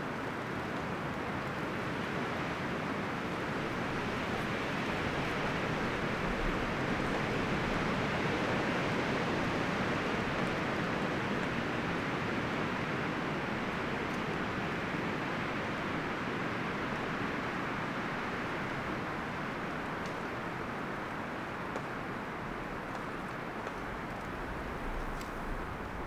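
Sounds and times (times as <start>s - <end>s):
wind rustling forest trees: 0.0s - 26.0s.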